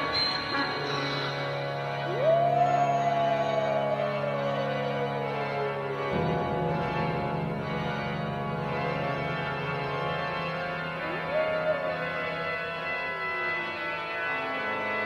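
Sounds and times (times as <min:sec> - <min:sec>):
eerie organ chord: 0:00.0 - 0:15.0.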